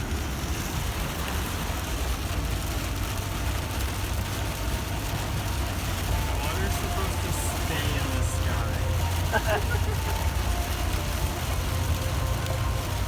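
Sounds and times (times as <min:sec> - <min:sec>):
constant road hiss: 0:00.0 - 0:13.0
van engine and tyre rumble: 0:00.0 - 0:13.0.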